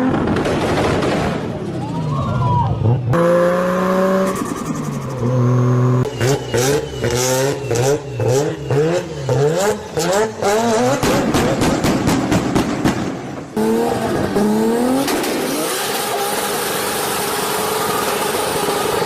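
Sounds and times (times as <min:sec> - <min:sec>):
car engine revving: 0:02.8 - 0:19.0.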